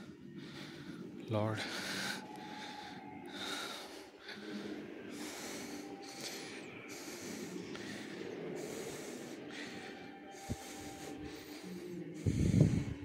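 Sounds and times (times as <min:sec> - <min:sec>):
breathing close to microphone: 0:00.0 - 0:13.0.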